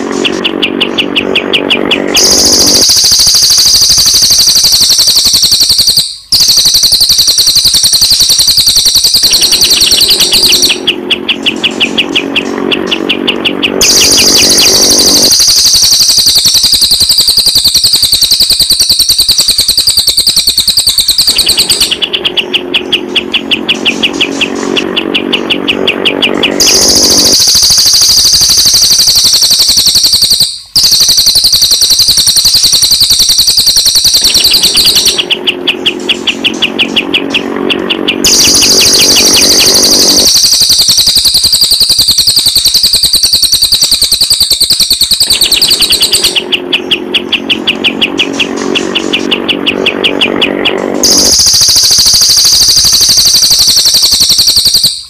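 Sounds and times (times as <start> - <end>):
bird trilling warble: 0.0 - 41.8, 45.1 - 53.7
fast repeated bird chirps: 0.0 - 55.0.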